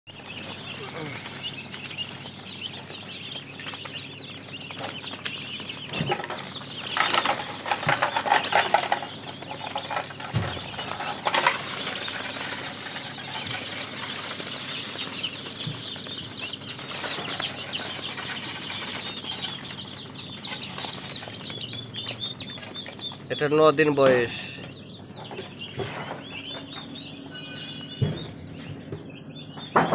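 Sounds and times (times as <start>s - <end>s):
chicks peeping: 0.1s - 29.9s
scuffling and wing-flapping: 0.2s - 24.5s.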